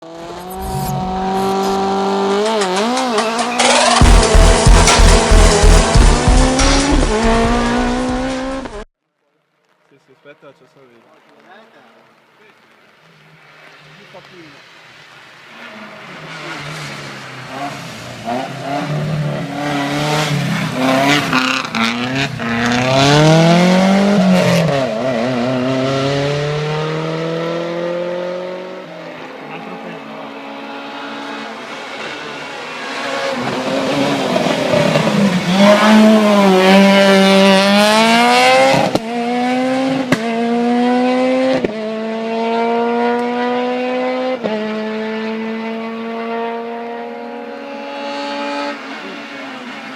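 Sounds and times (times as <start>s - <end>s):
car accelerating through gears: 0.0s - 8.9s, 15.6s - 49.9s
rally cars passing at full throttle: 0.0s - 8.9s, 12.8s - 49.9s.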